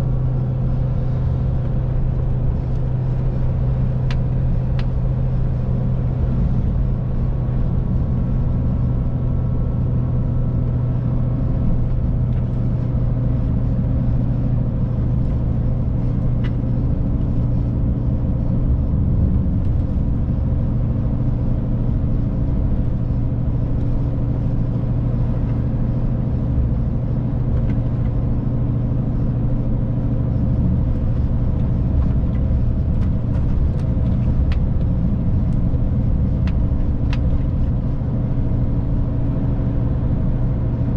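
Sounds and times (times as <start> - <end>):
diesel truck engine cruising: 0.0 - 40.9
road noise: 0.0 - 40.9.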